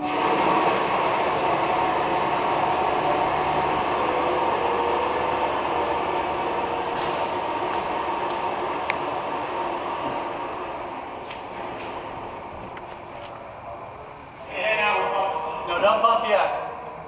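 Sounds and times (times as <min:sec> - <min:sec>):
hydraulic landing gear whine: 0:00.0 - 0:17.0.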